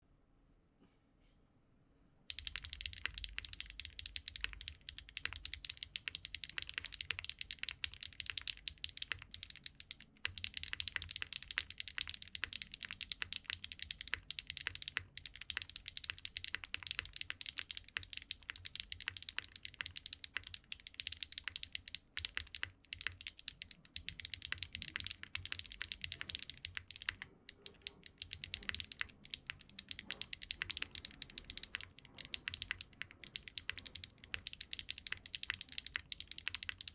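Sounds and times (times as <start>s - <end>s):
fast mechanical keyboard typing: 2.3s - 36.9s.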